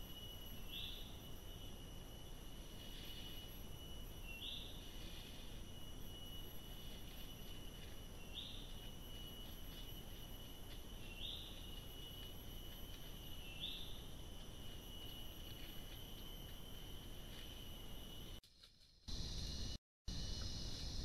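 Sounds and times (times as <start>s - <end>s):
steady high-pitched whine: 0.0s - 21.0s.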